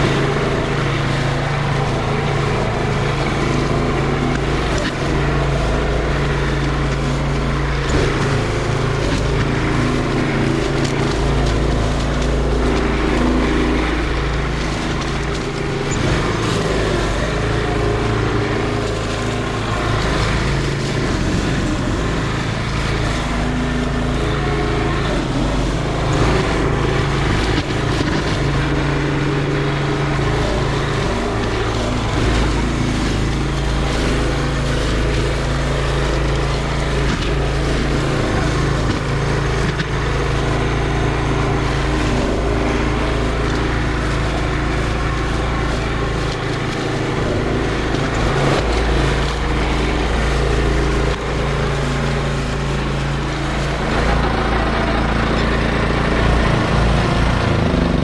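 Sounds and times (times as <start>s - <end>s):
mower deck chopping brush: 0.0s - 58.0s
mower engine running: 0.0s - 58.0s.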